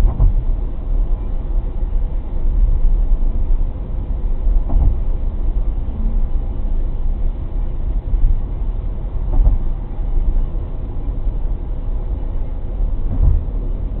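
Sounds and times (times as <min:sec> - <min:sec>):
road and tyre rumble: 0:00.0 - 0:14.0.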